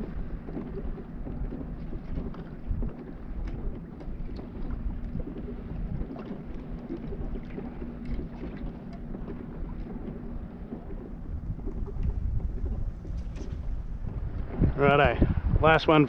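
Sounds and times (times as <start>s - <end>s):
water lapping against hull: 0.0s - 16.0s
wind buffeting microphone: 0.0s - 16.0s.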